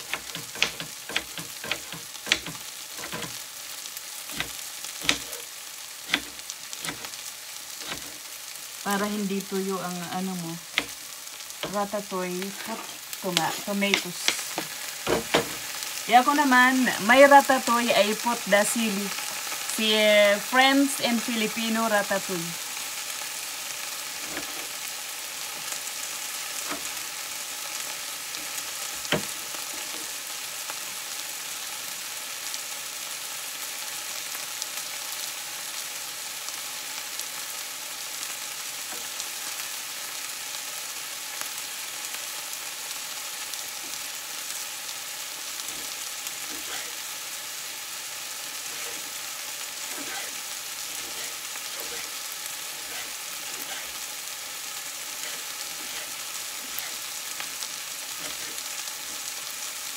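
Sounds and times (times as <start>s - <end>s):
vegetables sizzling in frying pan: 0.0s - 59.9s.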